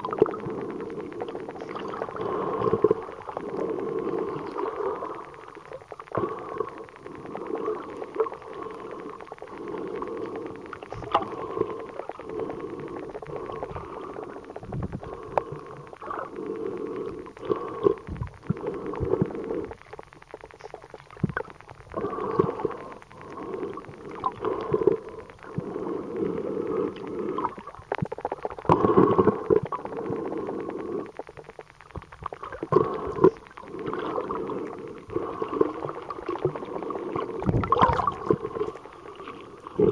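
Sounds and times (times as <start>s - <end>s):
underwater gurgling and sloshing: 0.0s - 39.9s.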